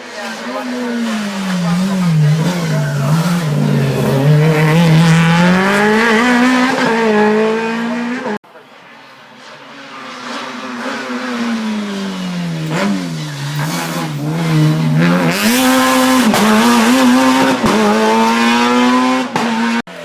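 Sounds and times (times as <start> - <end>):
race car engine revving: 0.0 - 8.4, 9.6 - 19.9.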